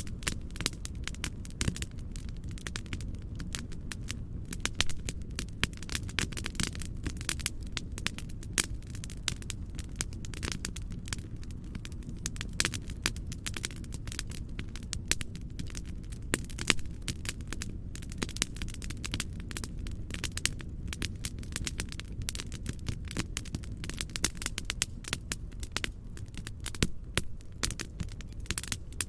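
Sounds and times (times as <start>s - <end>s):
low rumble of burning: 0.0s - 29.0s
wood fire crackling and popping: 0.0s - 29.0s.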